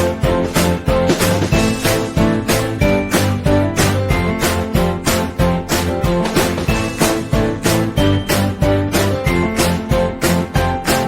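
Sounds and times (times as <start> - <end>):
upbeat music with guitar: 0.0 - 11.0.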